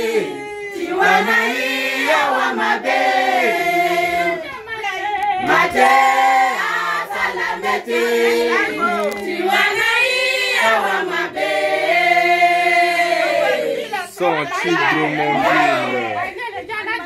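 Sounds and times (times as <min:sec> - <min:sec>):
women singing in chorus: 0:00.0 - 0:17.0.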